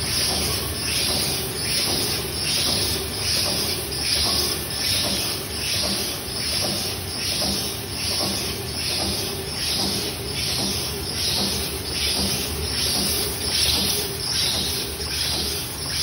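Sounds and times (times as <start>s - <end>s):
machine rhythmic hiss: 0.0s - 16.0s
mechanical hum: 0.0s - 16.0s.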